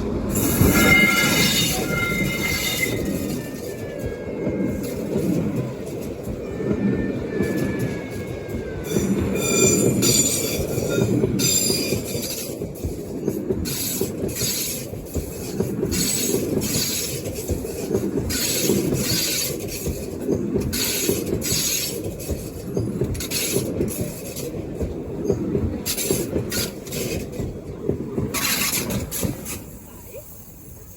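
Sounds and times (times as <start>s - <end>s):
train rumbling on track: 0.0s - 30.9s
train wheels squealing on rails: 0.0s - 30.9s.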